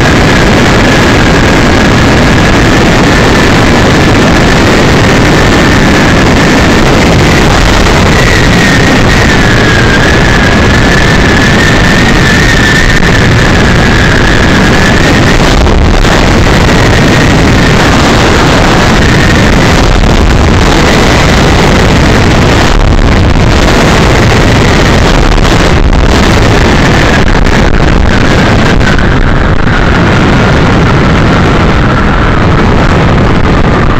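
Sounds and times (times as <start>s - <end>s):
faint high whine: 0.0s - 33.9s
road noise: 0.0s - 33.9s
wind buffeting microphone: 0.0s - 33.9s.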